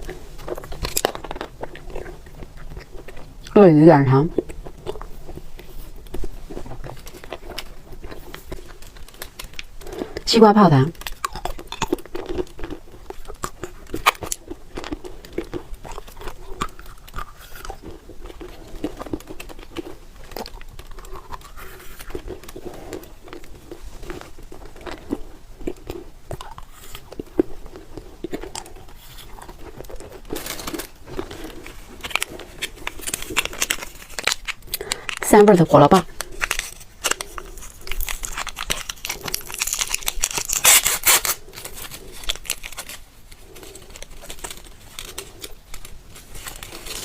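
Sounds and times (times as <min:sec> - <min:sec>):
chewing candy: 0:00.0 - 0:47.0.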